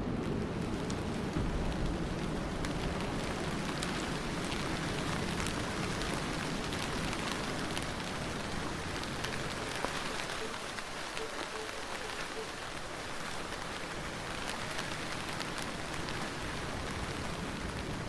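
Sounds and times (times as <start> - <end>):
steady rainfall: 0.0 - 18.0.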